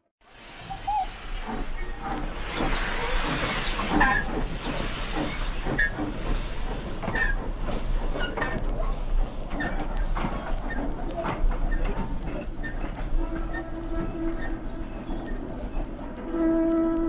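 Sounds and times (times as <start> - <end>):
model steam engine hissing: 0.3 - 16.9
high squeaks: 0.9 - 16.8.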